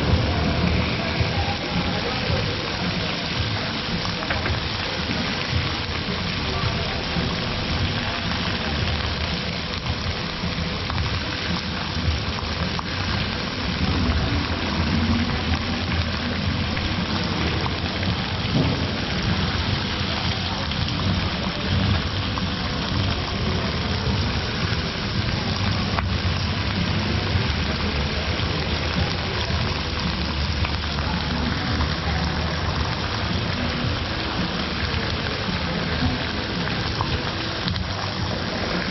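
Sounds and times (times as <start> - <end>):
meat sizzling: 0.1 - 38.9.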